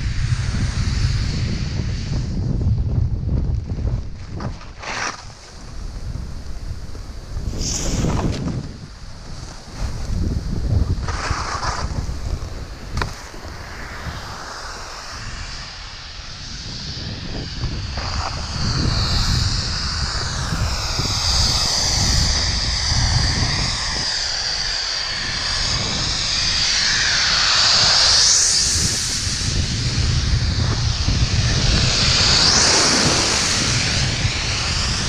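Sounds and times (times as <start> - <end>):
skis hissing over snow: 0.0 - 35.0
snowmaking gun hissing whine: 0.0 - 35.0
wind on microphone: 0.0 - 35.0.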